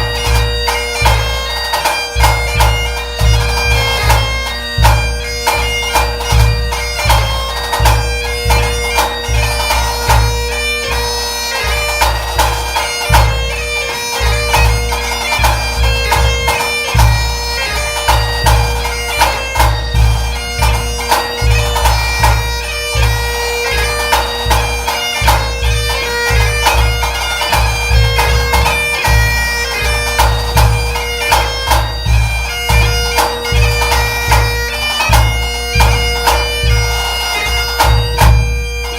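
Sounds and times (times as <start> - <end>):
bagpipe playing a tune: 0.0 - 38.9.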